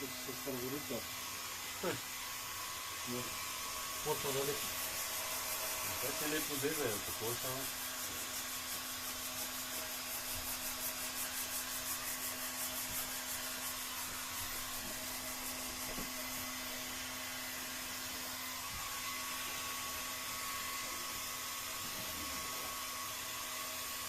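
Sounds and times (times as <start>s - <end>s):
heat gun blowing hot air: 0.0s - 24.0s.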